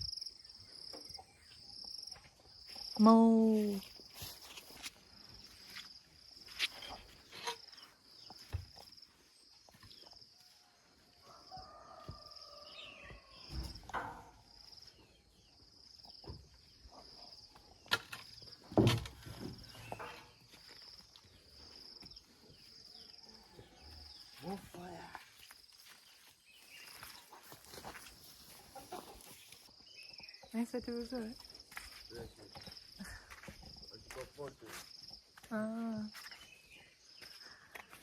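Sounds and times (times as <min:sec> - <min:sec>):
insect chirping: 0:00.0 - 0:38.0.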